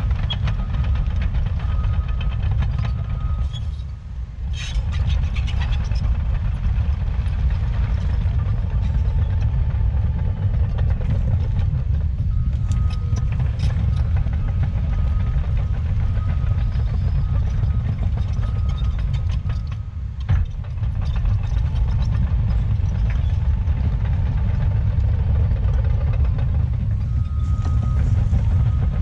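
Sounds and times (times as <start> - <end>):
heavy diesel engine under load: 0.0 - 29.0.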